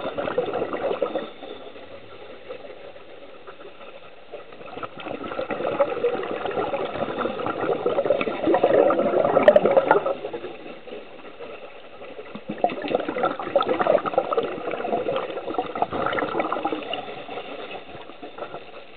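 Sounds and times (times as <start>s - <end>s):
underwater air bubbling: 0.0s - 18.9s.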